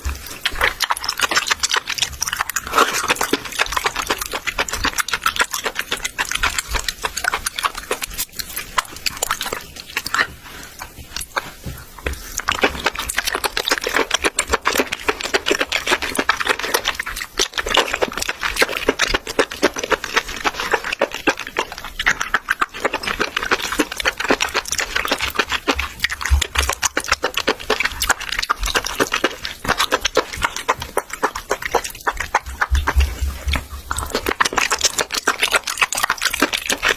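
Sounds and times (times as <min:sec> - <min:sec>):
wet chewing and slurping: 0:00.0 - 0:36.9.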